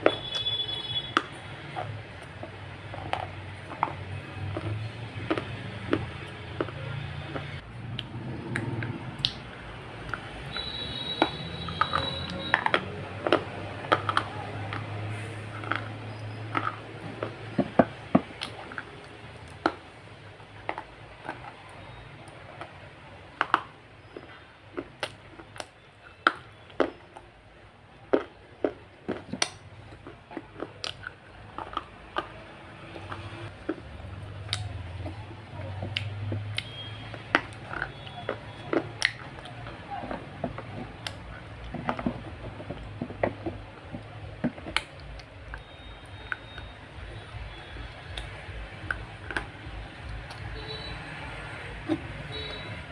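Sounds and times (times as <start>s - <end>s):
crunching and chewing hard blocks: 0.0s - 52.9s.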